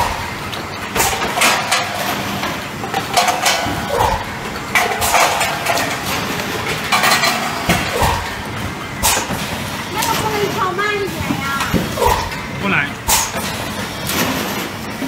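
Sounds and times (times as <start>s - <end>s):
machine mechanical din: 0.0s - 15.0s
sharp machine clatters: 0.0s - 15.0s.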